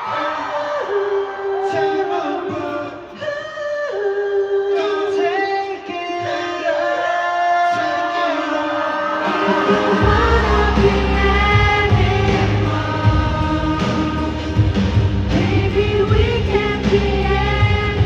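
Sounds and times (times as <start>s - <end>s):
live pop music with singing: 0.0s - 18.0s.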